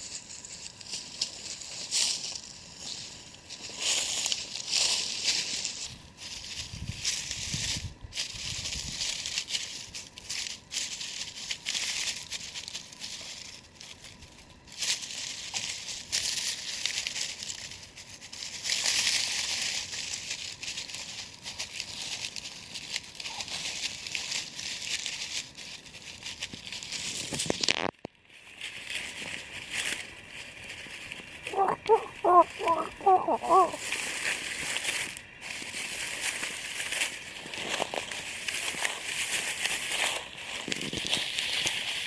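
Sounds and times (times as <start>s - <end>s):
dry leaves crunching and rustling: 0.0s - 42.0s.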